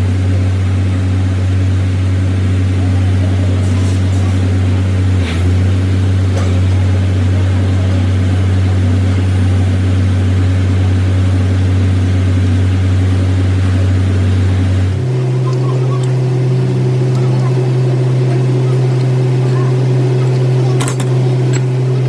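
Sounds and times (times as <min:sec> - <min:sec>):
machine humming deeply: 0:00.0 - 0:22.0.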